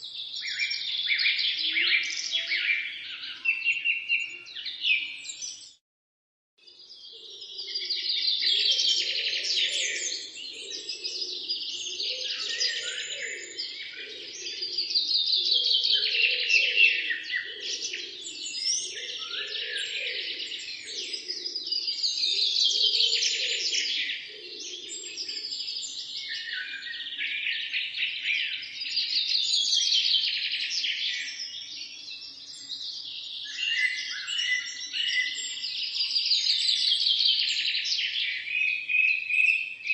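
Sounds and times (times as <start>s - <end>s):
small birds chirping chorus: 0.0s - 5.8s, 6.6s - 39.9s.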